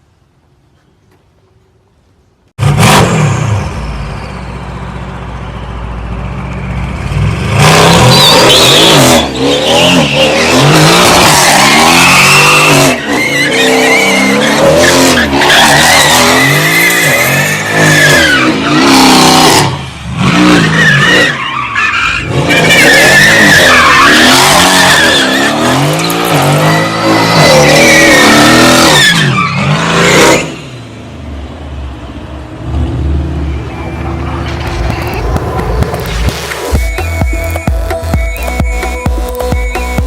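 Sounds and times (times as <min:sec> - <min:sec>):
car engine revving: 0:02.6 - 0:05.4, 0:06.3 - 0:38.1
tyres skidding: 0:02.6 - 0:40.0.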